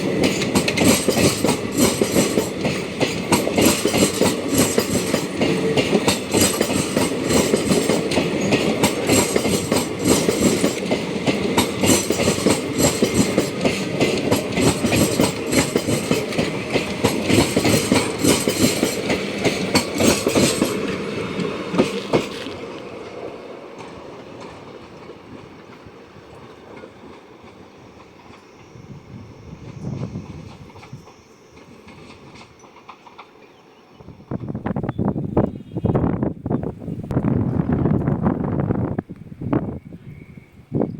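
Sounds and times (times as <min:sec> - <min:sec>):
train wheels clattering over rail joints: 0:00.0 - 0:34.5
train rumble: 0:00.0 - 0:40.9.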